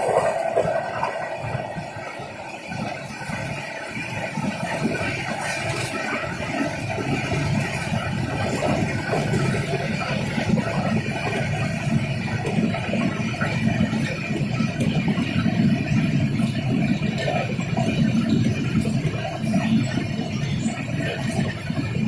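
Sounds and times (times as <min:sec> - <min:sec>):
train coach rattling: 0:00.0 - 0:22.0
train wheels rumbling on track: 0:00.0 - 0:22.0.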